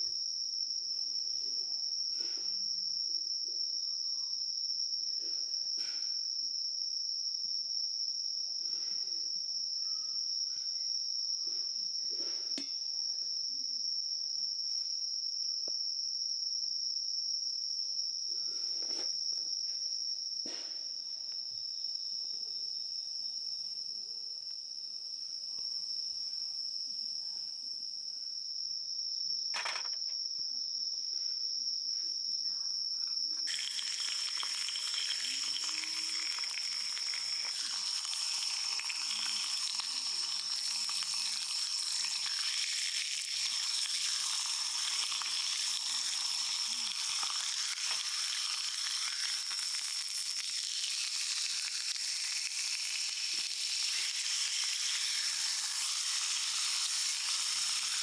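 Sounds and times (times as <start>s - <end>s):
crickets chirping chorus: 0.0s - 58.0s.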